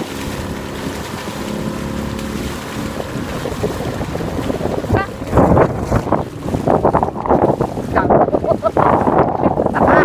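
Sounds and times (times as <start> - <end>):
water around a kayak: 0.0 - 10.0
wind rumbling on microphone: 0.0 - 10.0.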